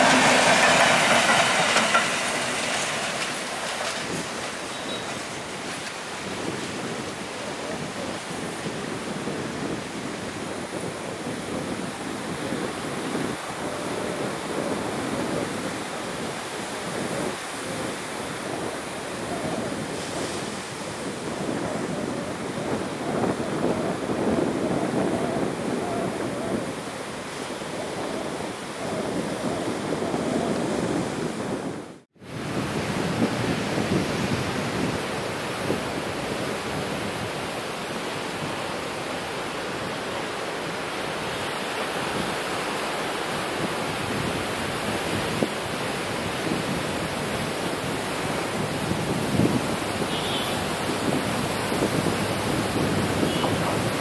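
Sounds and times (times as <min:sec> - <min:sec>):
surf breaking on shore: 0:00.0 - 0:54.0
wind on microphone: 0:00.0 - 0:54.0.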